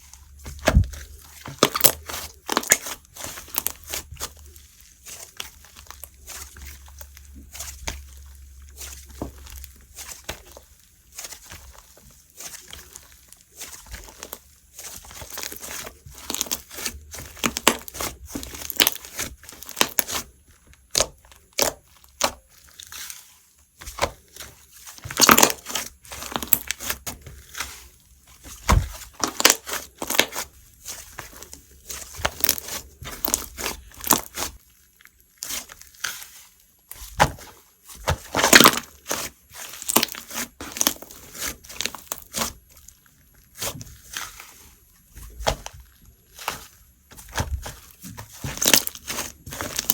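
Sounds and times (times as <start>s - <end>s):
slime popping and crackling: 0.2s - 11.8s, 12.4s - 23.0s, 23.9s - 36.2s, 36.8s - 44.4s, 45.2s - 49.9s.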